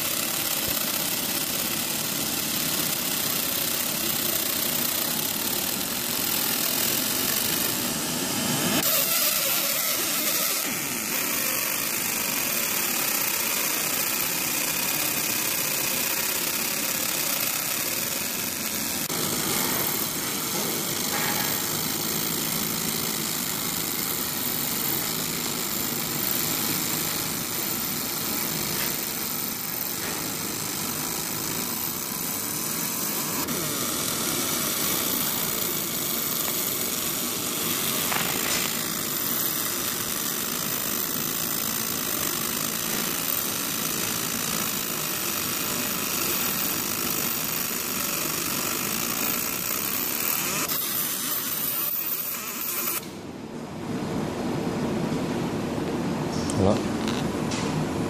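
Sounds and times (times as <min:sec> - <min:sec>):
laser engraver whirring: 0:00.0 - 0:53.3.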